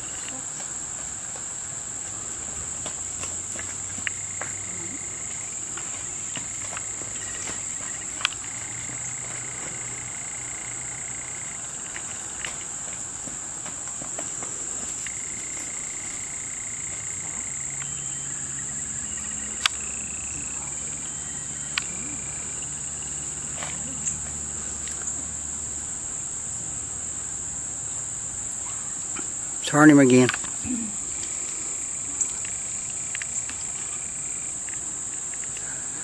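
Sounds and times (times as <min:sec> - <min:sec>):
insects chorus: 0:00.0 - 0:36.0.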